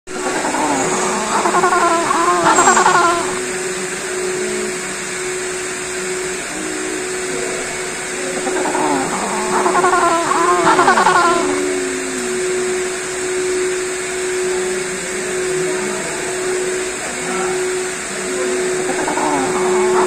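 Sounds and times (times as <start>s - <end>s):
penguins braying: 0.1s - 20.0s
steady hum: 0.1s - 20.0s.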